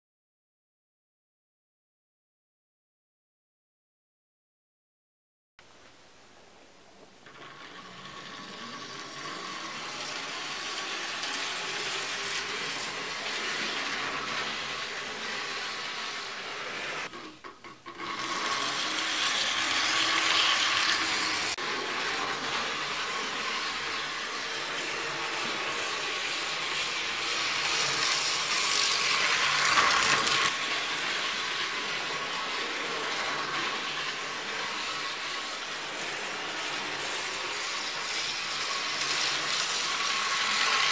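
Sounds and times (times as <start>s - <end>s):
wheel and track rattle: 7.2s - 40.9s.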